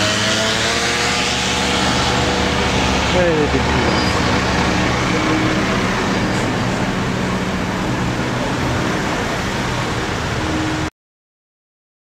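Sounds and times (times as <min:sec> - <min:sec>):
car engines running: 0:00.0 - 0:10.9
coach engine running: 0:00.0 - 0:10.9.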